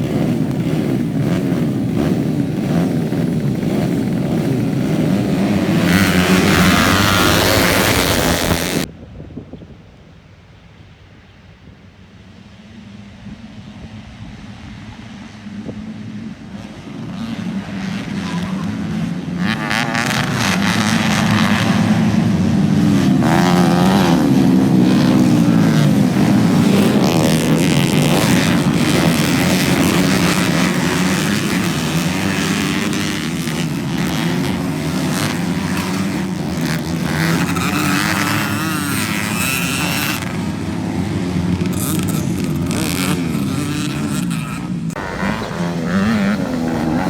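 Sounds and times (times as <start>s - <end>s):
motocross bike engines revving: 0.0s - 8.9s, 15.4s - 47.0s.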